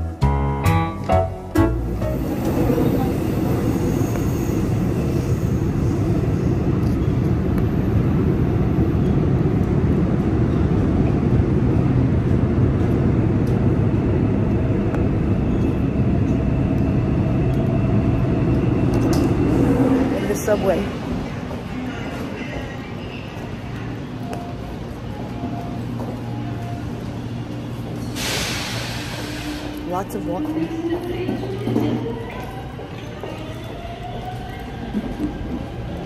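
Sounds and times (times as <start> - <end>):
subway train wheels rumbling: 0.0 - 36.0.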